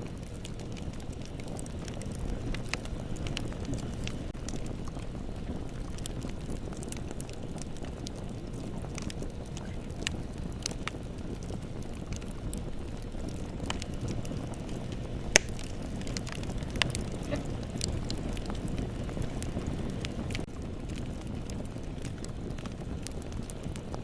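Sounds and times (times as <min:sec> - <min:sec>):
bonfire flames rushing: 0:00.0 - 0:24.0
fire crackling: 0:00.0 - 0:24.0
loud pop of fire: 0:00.1 - 0:23.9.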